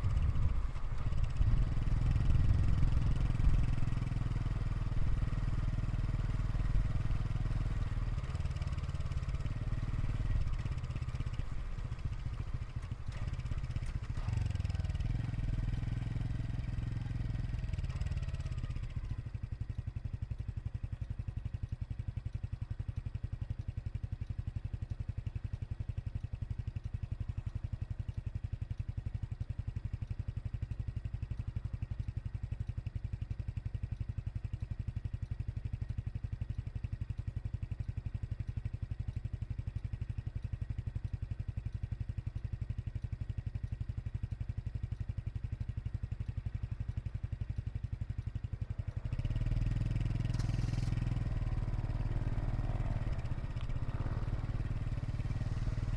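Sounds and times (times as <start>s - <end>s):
motorcycle engine and exhaust: 0.0s - 55.9s.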